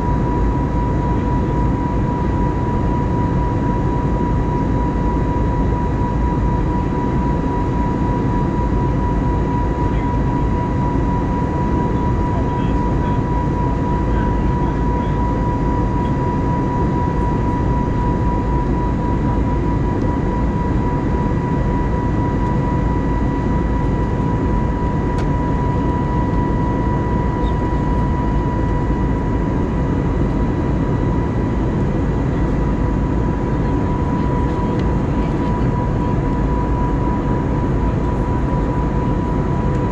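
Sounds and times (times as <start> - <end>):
airflow and engine rush: 0.0 - 39.9.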